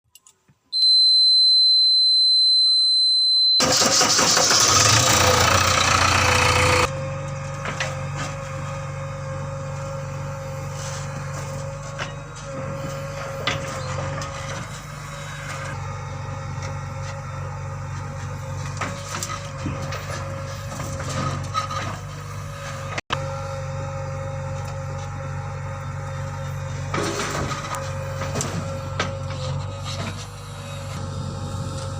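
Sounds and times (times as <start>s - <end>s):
diesel engine running: 3.6s - 31.9s.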